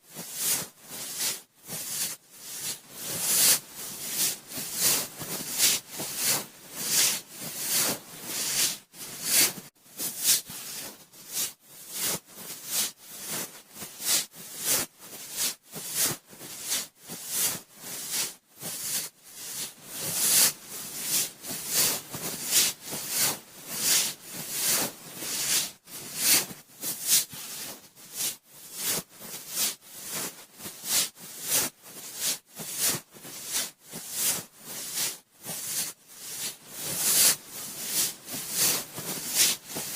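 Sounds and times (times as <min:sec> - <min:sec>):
cotton swab rubbing microphone: 0:00.1 - 0:39.9.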